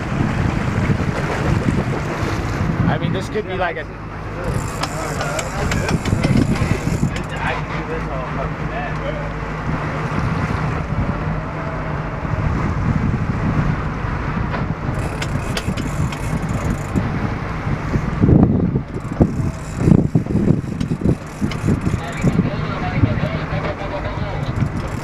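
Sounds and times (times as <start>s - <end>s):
wind buffeting microphone: 0.0s - 8.7s, 9.3s - 25.0s
boat engine running: 0.0s - 25.0s.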